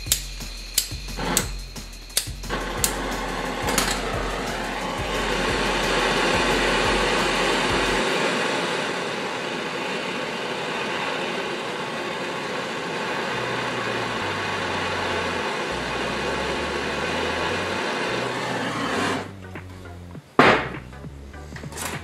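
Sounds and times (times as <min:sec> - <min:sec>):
gas torch hissing: 0:00.0 - 0:19.5.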